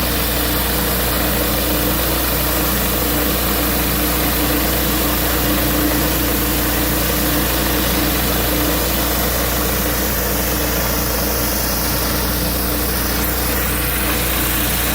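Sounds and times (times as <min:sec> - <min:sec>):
hiss of spraying water: 0:00.0 - 0:14.9
pressure washer engine running: 0:00.0 - 0:14.9.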